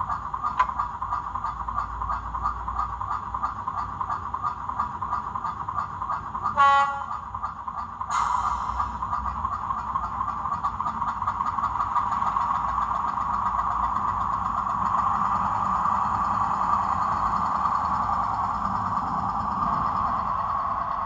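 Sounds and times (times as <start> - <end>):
model diesel engine through small speaker: 0.0 - 21.0.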